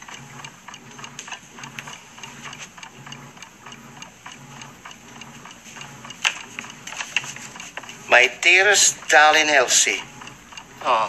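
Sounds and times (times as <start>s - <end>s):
rhythmic ticking: 0.0s - 11.0s.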